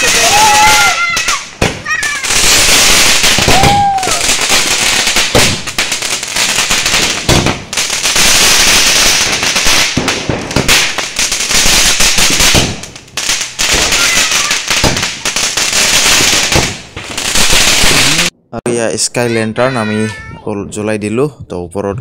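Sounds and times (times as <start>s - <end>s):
fireworks hissing and crackling: 0.0s - 18.3s.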